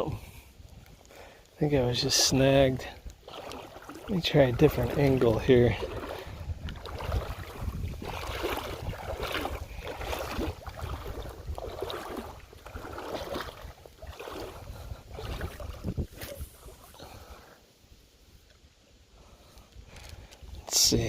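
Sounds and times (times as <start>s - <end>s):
wind buffeting microphone: 0.0s - 17.4s
wading through shallow water: 0.0s - 21.0s.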